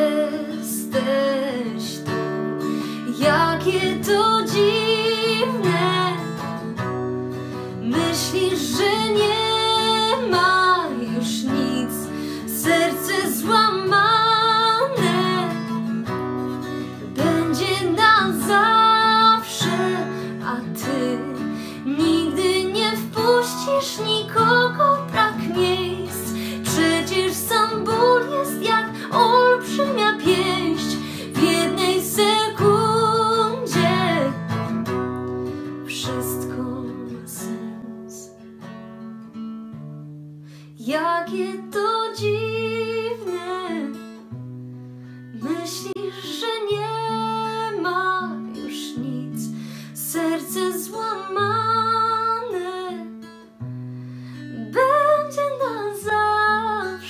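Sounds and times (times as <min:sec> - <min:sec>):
woman singing: 0:00.0 - 0:07.0, 0:07.7 - 0:34.8, 0:35.6 - 0:38.5, 0:40.8 - 0:44.2, 0:45.3 - 0:53.5, 0:54.4 - 0:57.0
acoustic guitar: 0:00.0 - 0:57.0.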